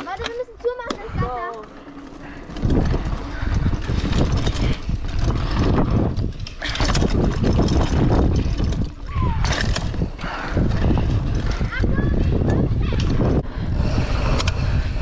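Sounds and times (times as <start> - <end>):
bike rattling and knocking: 0.0 - 15.0
tyres on dirt: 0.0 - 15.0
wind buffeting microphone: 0.0 - 15.0.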